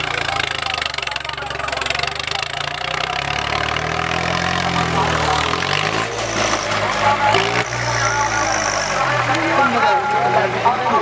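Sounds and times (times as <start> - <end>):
background voices: 0.0 - 11.0
tractor diesel engine revving: 0.0 - 11.0.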